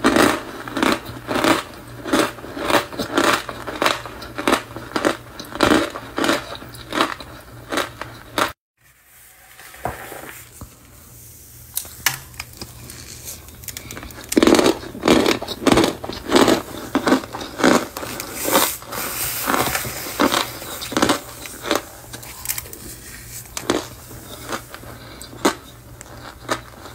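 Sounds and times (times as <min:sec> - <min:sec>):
cornstarch crunching: 0:00.0 - 0:08.6, 0:11.8 - 0:26.9.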